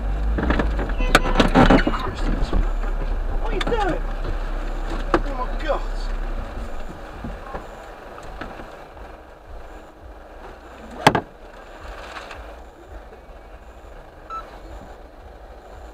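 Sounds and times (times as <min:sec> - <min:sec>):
street traffic hum: 0:00.0 - 0:15.9.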